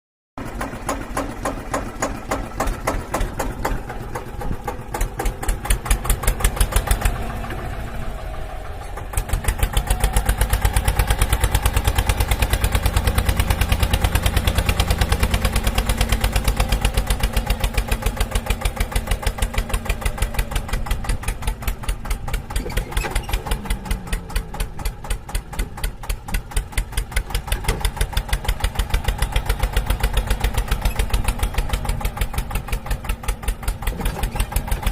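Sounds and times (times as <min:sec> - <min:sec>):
diesel tractor engine chugging: 0:00.4 - 0:34.9.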